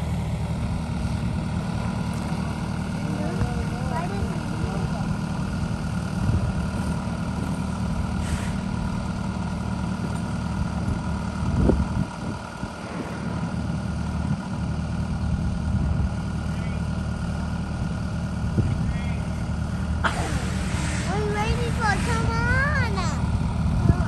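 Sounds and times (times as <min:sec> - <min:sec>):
heavy engine idling: 0:00.0 - 0:24.0.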